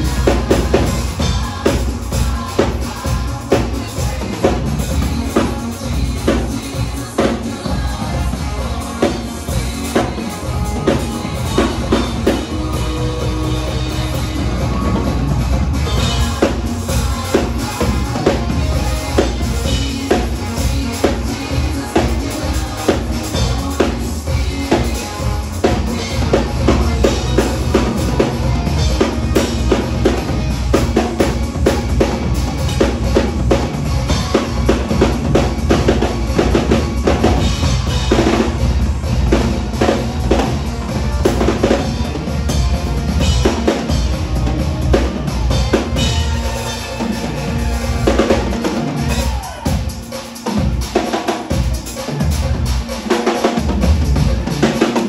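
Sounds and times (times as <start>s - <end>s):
drum kit played hard: 0.0s - 55.0s.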